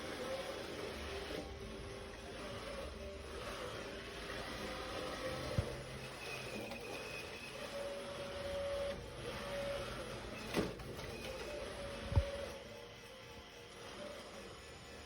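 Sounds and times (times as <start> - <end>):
small motor whirring: 0.0 - 15.0.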